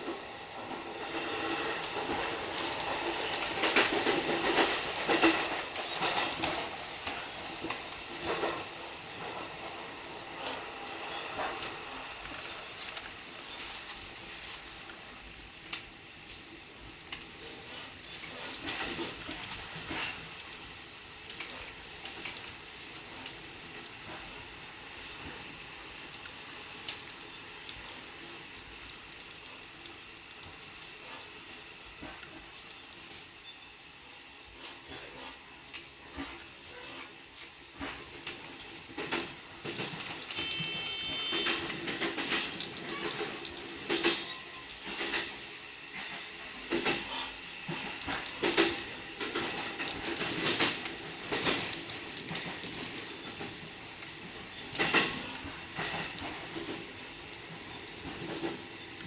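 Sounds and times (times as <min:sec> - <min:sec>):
train wheels clacking over rail joints: 0:00.0 - 0:33.5, 0:34.5 - 0:59.0
train running noise: 0:00.0 - 0:59.0.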